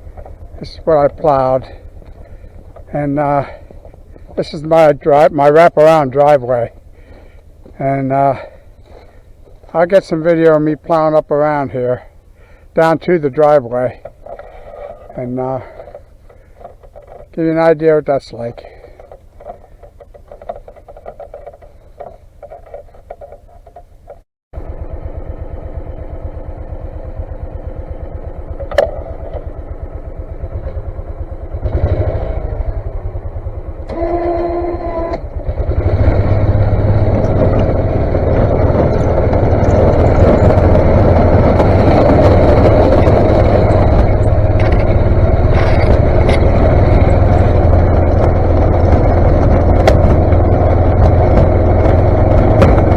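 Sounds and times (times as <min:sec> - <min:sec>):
snowplow engine running: 0:00.0 - 0:52.9.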